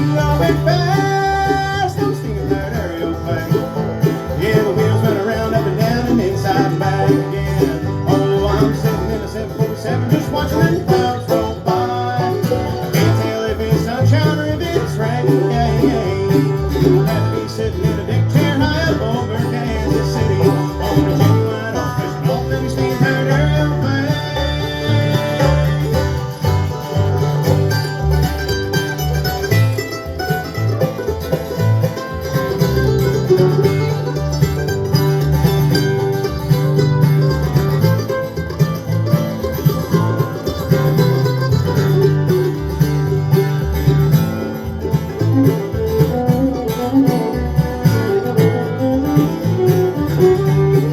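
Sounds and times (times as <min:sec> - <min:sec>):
banjo picking: 0:00.0 - 0:50.9
bluegrass band playing: 0:00.0 - 0:50.9
guitar picking: 0:00.0 - 0:50.9.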